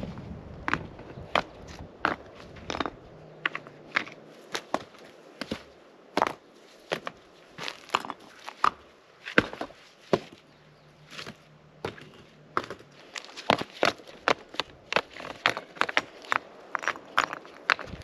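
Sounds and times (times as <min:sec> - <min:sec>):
rocks knocking together: 0:00.6 - 0:10.4, 0:11.1 - 0:18.0.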